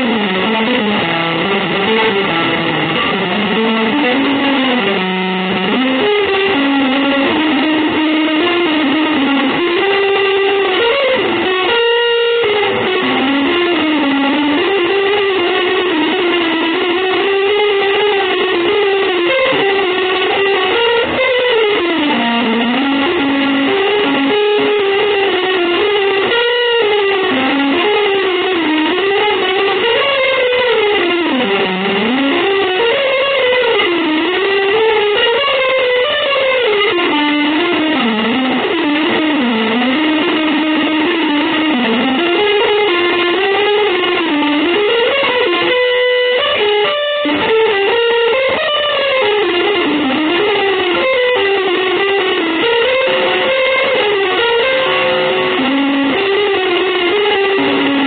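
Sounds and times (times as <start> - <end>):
distorted electric guitar melody: 0.0 - 58.0.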